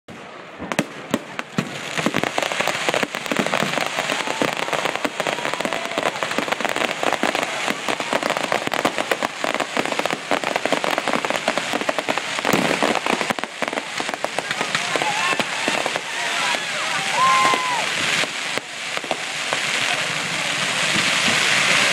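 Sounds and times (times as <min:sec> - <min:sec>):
fireworks crackling and banging: 0:00.1 - 0:21.9.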